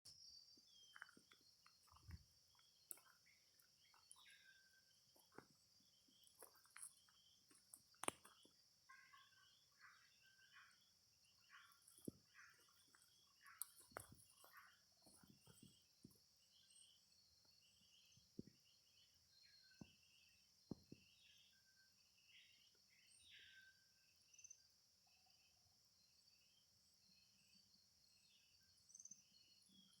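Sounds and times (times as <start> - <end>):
bird chirps: 0.1 - 24.6.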